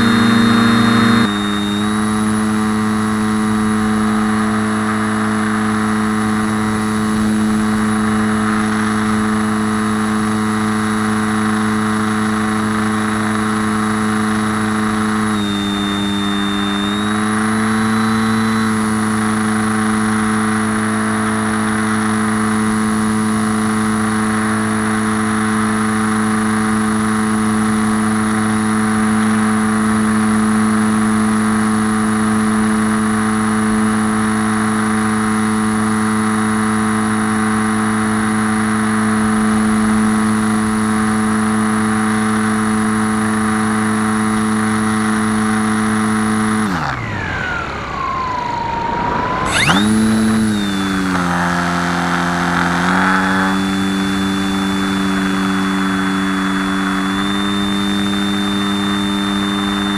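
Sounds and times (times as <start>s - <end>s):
model plane motor humming: 0.0s - 59.9s.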